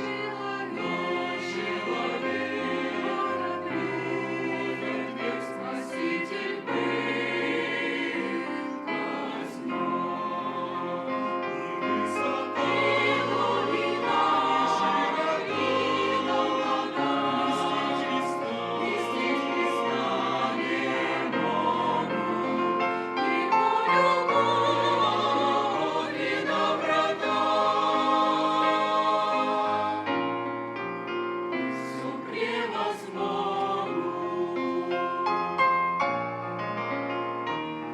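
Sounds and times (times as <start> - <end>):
church choir singing a hymn: 0.0 - 37.9.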